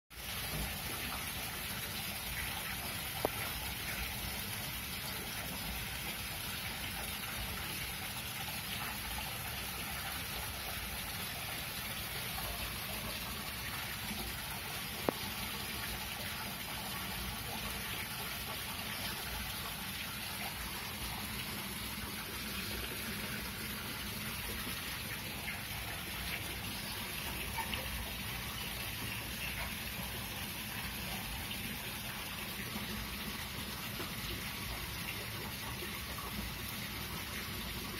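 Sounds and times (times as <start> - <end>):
rain pattering: 0.1 - 37.8.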